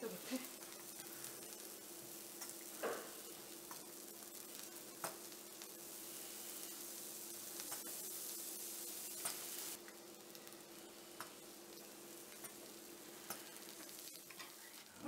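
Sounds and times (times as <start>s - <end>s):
batter sizzling in a pan: 0.0s - 15.0s.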